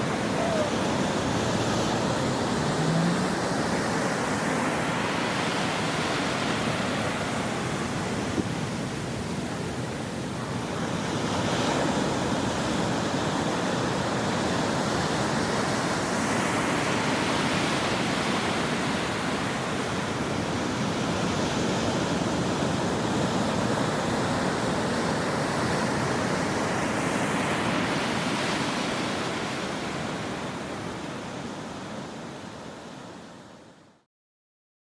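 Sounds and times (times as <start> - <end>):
ocean waves crashing on shore: 0.0 - 33.9.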